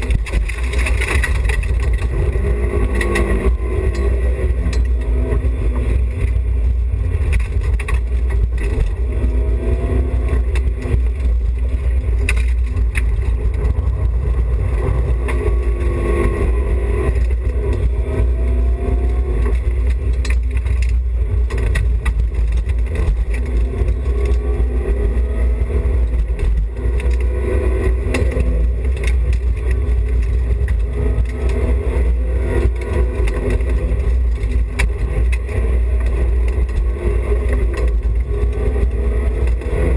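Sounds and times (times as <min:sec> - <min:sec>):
car engine revving: 0:00.0 - 0:39.9
heavy low rumble: 0:00.0 - 0:39.9
knocks and clatters: 0:00.0 - 0:39.9.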